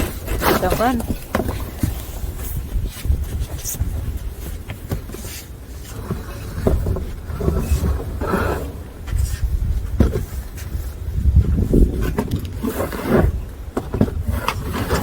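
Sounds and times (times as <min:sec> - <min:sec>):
short scrapes or crunches: 0:00.0 - 0:04.5, 0:05.2 - 0:13.5
wind rumbling on microphone: 0:00.0 - 0:15.0.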